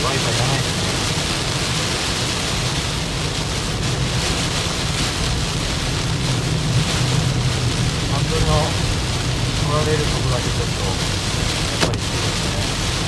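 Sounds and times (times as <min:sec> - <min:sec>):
heavy rain hitting a car: 0:00.0 - 0:13.0
tyres rumbling on wet road: 0:00.0 - 0:13.0.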